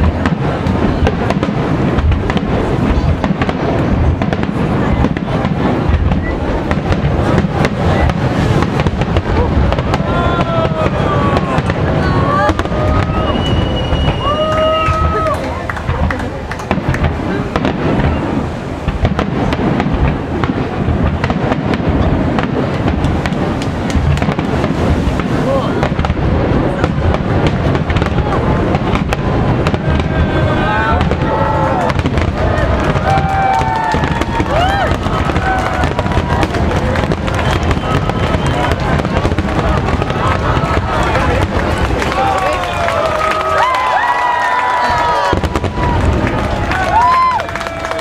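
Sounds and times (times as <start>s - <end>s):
firework shells bursting: 0.0s - 30.2s, 30.9s - 43.6s.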